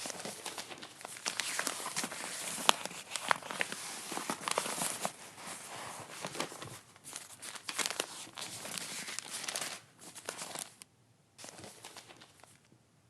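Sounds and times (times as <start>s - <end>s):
paper crinkling and tearing: 0.0s - 10.8s, 11.4s - 12.6s.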